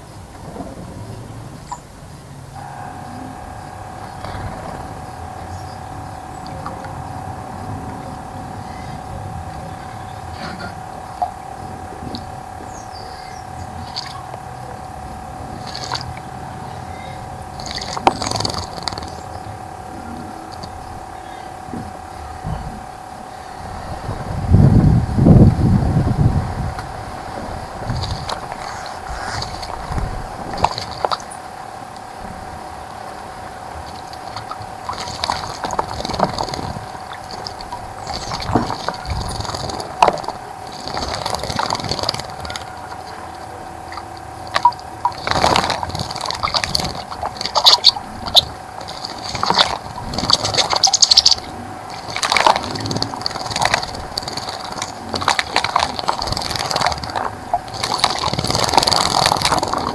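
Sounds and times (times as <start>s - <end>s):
birds splashing in water: 0.0s - 59.9s
steady hum: 0.0s - 59.9s
wings fluttering: 2.6s - 59.9s.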